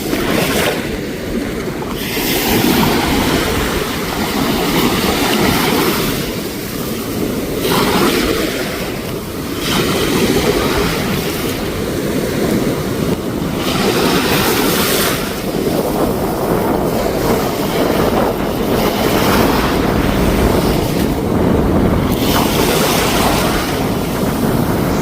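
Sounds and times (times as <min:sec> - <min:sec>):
sea surf washing ashore: 0:00.0 - 0:25.0
wind rumble on microphone: 0:00.0 - 0:25.0.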